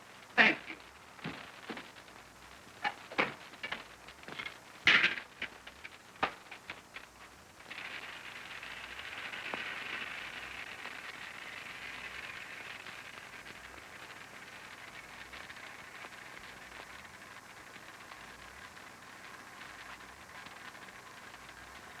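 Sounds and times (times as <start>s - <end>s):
gas hissing from oven: 0.0s - 22.0s.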